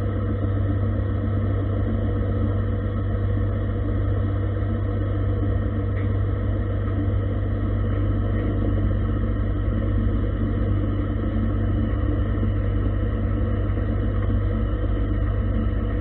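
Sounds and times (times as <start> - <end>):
lathe machine hum: 0.0 - 16.0.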